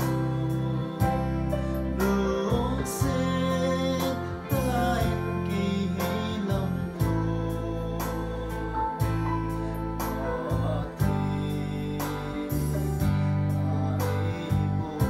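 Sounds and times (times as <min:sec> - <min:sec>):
electronic keyboard chords: 0:00.0 - 0:15.0
man singing: 0:00.0 - 0:15.0.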